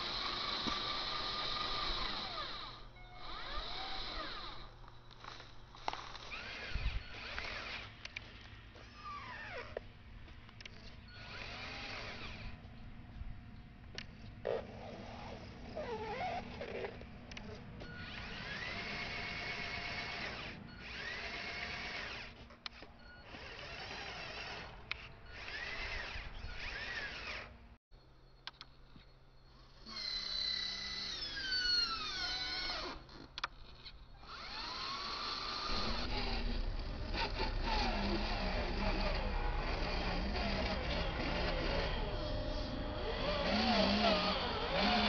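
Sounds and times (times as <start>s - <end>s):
small electric motor whining: 0.0s - 9.9s, 10.6s - 12.8s, 14.4s - 27.6s, 29.5s - 45.0s.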